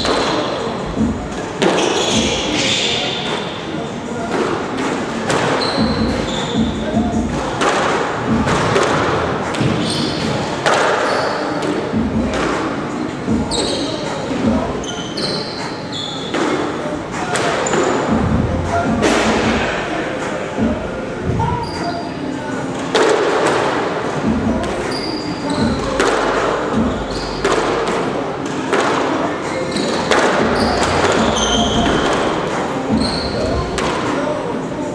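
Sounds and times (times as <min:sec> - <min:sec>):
squash racket hitting ball: 0:00.0 - 0:03.6, 0:04.3 - 0:22.0, 0:22.8 - 0:34.2
shoes squeaking on court floor: 0:00.0 - 0:07.5, 0:08.5 - 0:23.6, 0:24.2 - 0:34.3.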